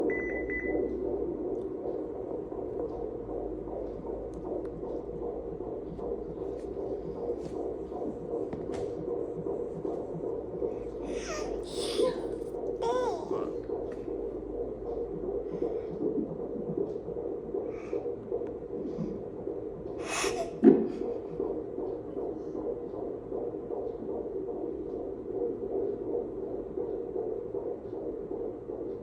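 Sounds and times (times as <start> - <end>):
heartbeat through ultrasound speaker: 0.0 - 29.0.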